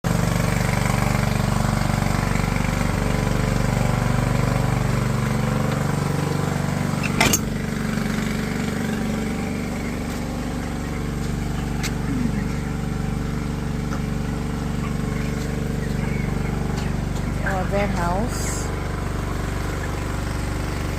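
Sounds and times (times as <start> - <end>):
small engine running: 0.1 - 20.9.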